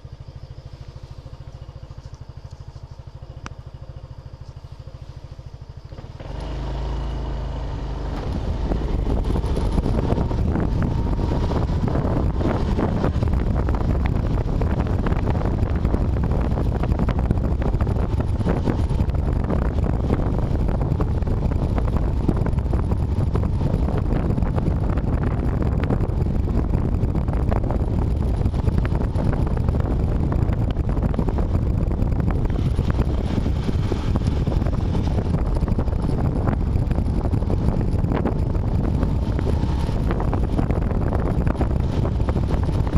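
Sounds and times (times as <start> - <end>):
road and engine rumble: 0.0 - 42.9.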